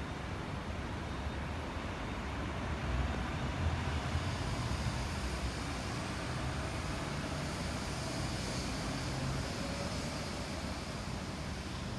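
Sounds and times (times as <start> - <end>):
faint hiss: 0.0 - 11.9
low city rumble: 0.0 - 11.9.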